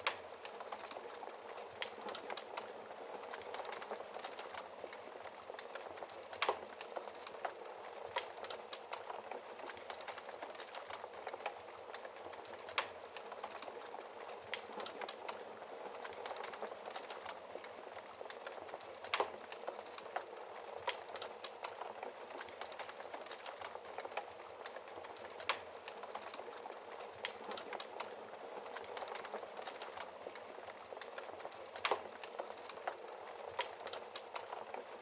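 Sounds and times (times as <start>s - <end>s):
sharp fire snaps: 0.0s - 35.0s
wood fire crackling: 0.0s - 35.0s.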